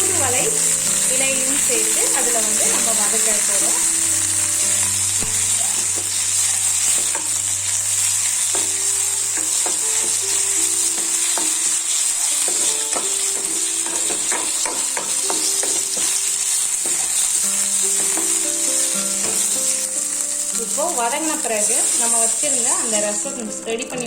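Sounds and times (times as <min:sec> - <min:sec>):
spatula scraping a pan: 0:00.0 - 0:23.2
onion sizzling in hot oil: 0:00.0 - 0:24.0.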